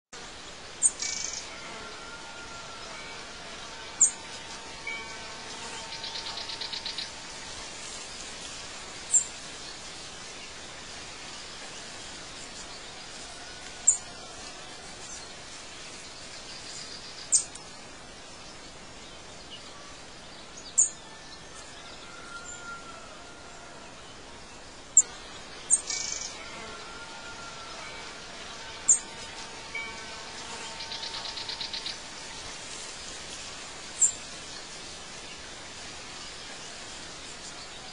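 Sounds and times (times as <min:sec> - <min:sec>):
outdoor hiss: 0:00.2 - 0:37.9.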